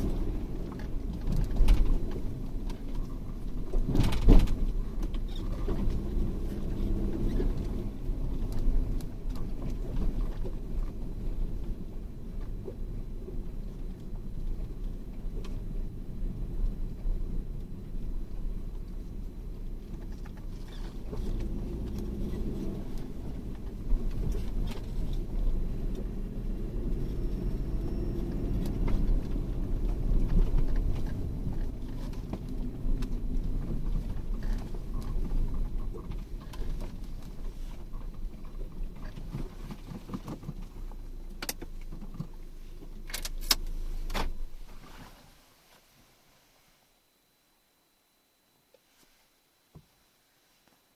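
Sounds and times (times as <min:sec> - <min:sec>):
vehicle rumbling over rough track: 0:00.0 - 0:45.2.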